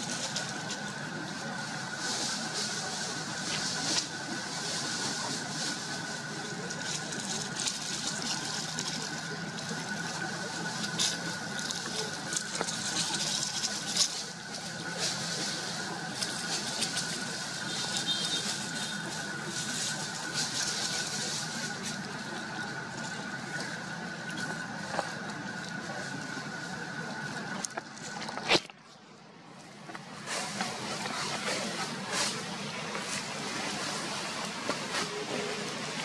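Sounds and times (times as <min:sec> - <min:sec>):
constant high tone: 0:00.0 - 0:36.0
hiss and hum: 0:00.0 - 0:36.0.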